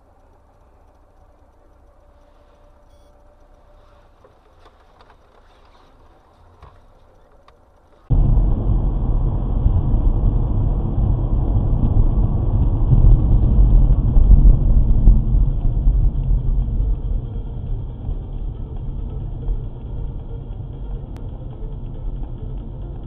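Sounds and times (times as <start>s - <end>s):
faint hum: 0.0s - 5.3s, 5.9s - 23.0s
car driving rumble from inside: 0.0s - 23.0s.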